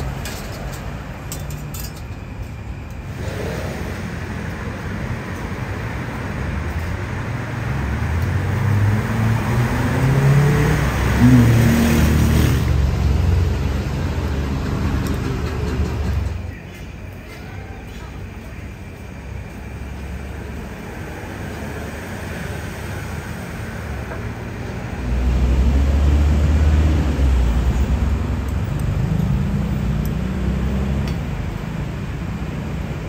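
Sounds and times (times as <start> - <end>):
heavy vehicle engine hum: 0.0 - 33.0
road traffic passing: 0.0 - 33.0.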